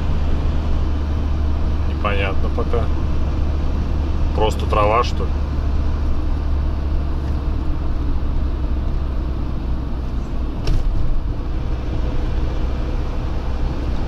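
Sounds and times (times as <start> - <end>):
road noise hiss: 0.0 - 14.0
truck engine drone: 0.0 - 14.0.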